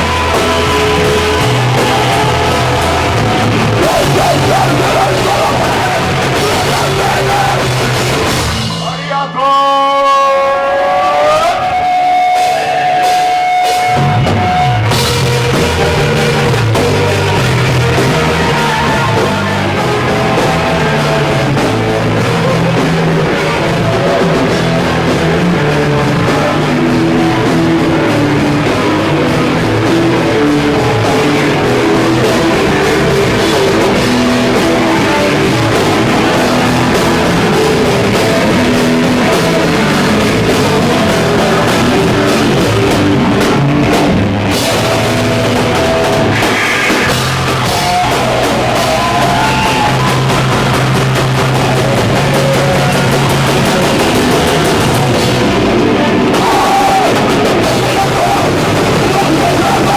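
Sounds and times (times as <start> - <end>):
hardcore band playing loud: 0.0 - 59.9.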